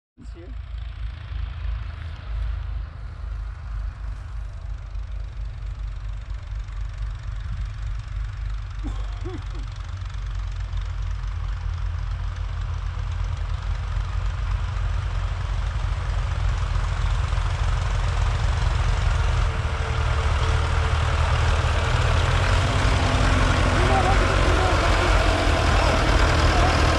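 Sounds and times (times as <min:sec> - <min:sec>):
tractor engines rumbling: 0:00.2 - 0:26.9.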